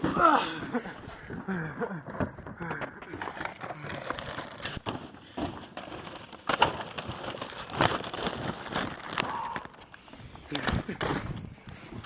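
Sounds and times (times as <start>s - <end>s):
packaging rustling and crackling: 1.3s - 12.0s.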